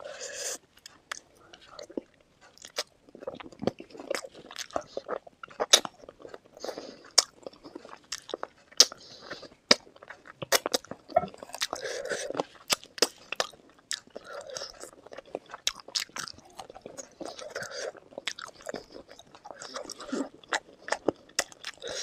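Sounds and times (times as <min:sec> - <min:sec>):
biting and chewing crunches: 0:00.4 - 0:22.0.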